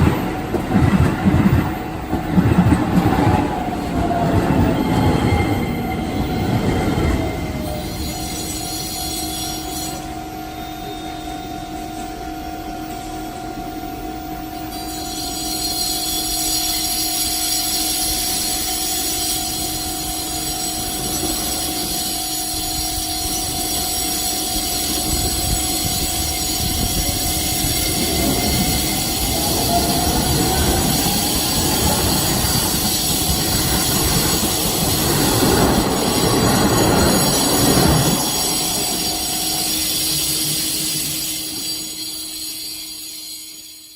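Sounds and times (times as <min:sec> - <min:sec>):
train motor whine: 0:00.0 - 0:43.9
train wheels rumbling on rails: 0:00.0 - 0:43.9.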